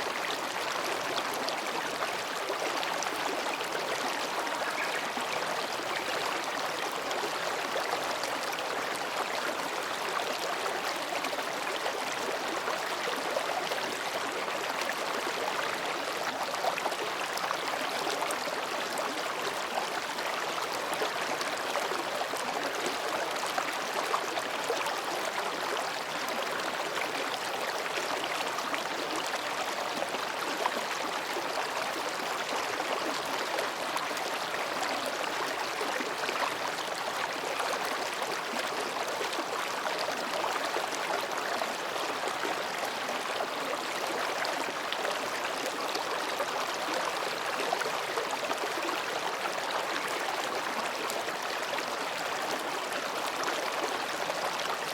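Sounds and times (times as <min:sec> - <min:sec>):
stream babbling over rocks: 0:00.0 - 0:54.9.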